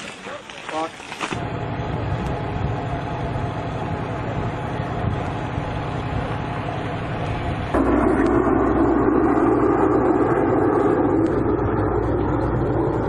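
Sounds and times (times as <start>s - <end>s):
engine droning: 1.3s - 13.0s.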